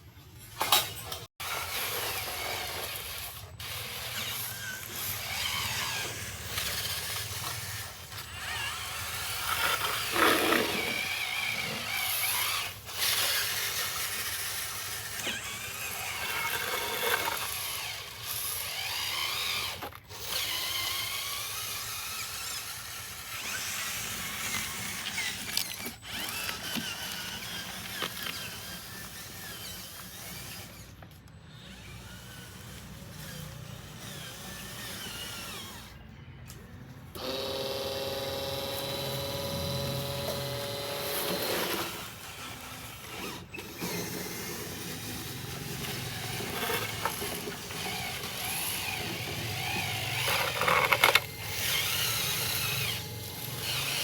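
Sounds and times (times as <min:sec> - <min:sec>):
small electric motors whining: 0:00.4 - 0:54.0.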